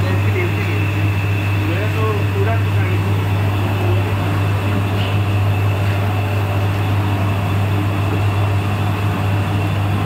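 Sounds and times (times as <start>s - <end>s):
roasting machine humming: 0.0s - 10.0s.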